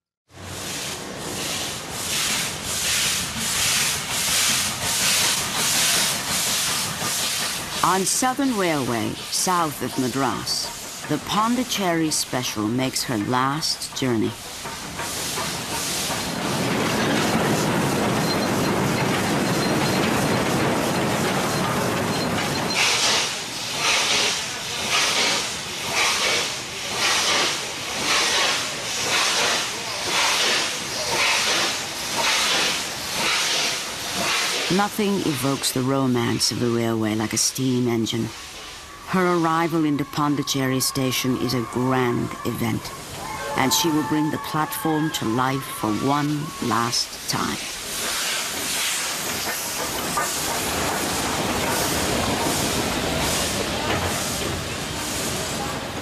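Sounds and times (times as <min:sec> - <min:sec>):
steam locomotive chuffing: 0:00.3 - 0:56.0.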